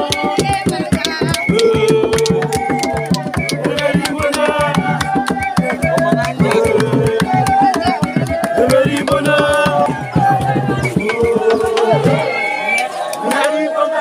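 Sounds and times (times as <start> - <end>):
hand drums beaten: 0.0 - 12.4
voices singing: 0.0 - 14.0.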